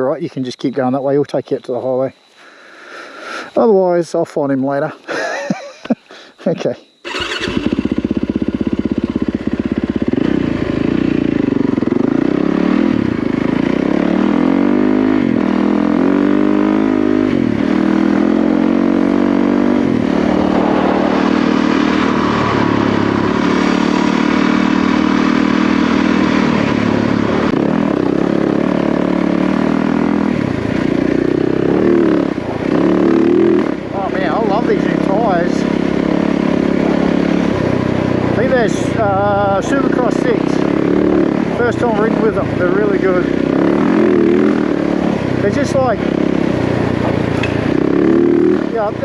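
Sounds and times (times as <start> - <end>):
dirt bike engine revving: 7.0 - 49.0.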